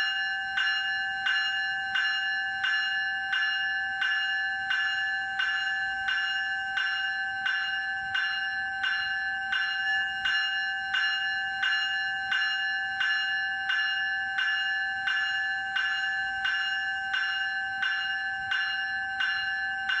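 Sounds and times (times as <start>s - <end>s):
electronic locomotive bell ringing: 0.0s - 20.0s.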